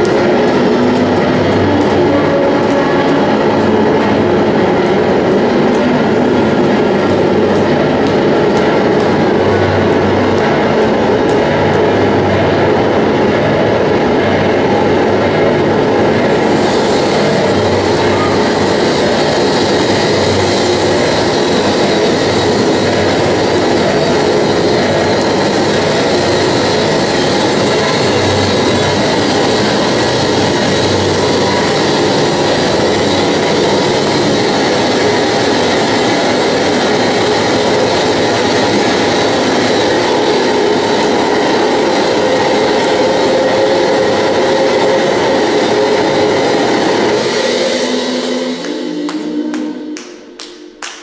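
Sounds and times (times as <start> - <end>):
harsh distorted noise: 0.0 - 51.0.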